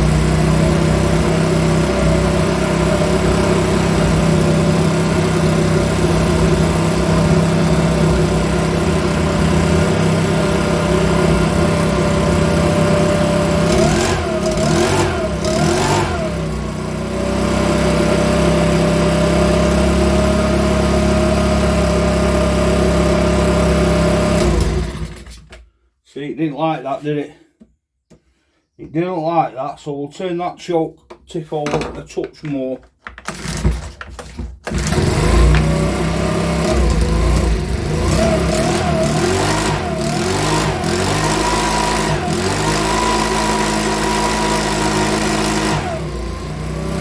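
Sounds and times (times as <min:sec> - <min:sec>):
small engine idling and revving: 0:00.0 - 0:25.5, 0:33.3 - 0:34.0, 0:34.6 - 0:47.0.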